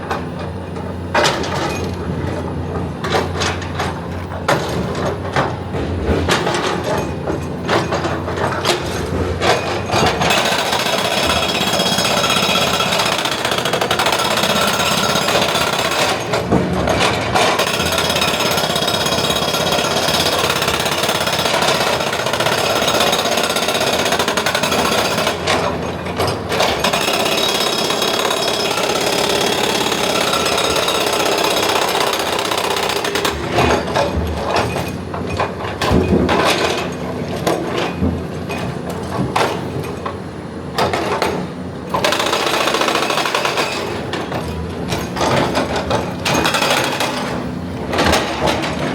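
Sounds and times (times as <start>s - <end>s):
hydraulic rock breaker hammering: 0.0s - 48.9s.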